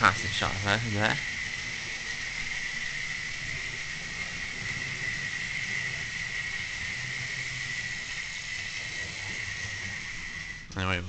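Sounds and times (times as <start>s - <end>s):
wheels rumbling on rails: 0.0s - 10.8s
electric motor whine: 0.0s - 11.0s.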